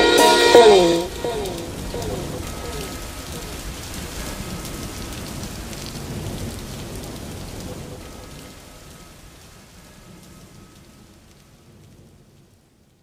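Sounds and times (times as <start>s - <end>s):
rain-like hiss: 0.0s - 13.0s.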